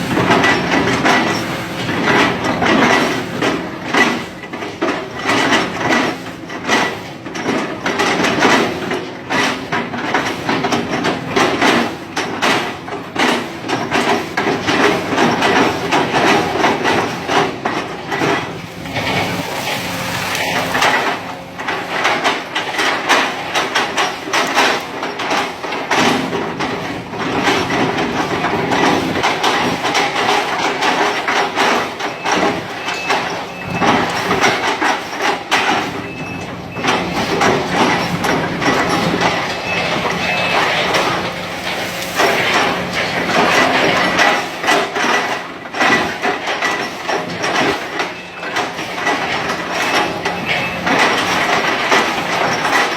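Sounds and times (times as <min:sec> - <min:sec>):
clanks and knocks: 0:00.0 - 0:52.9
excavator diesel engine running: 0:00.0 - 0:52.9.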